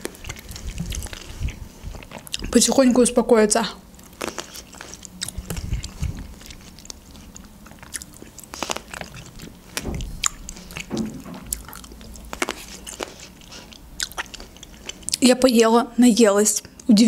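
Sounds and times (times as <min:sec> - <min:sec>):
person chewing grapes: 0:00.0 - 0:03.0, 0:03.8 - 0:15.3.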